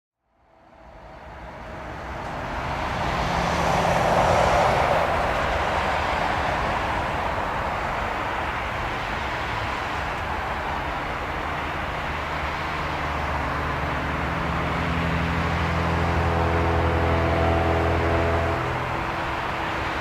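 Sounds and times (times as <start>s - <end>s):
jet engines roaring: 0.9s - 20.0s.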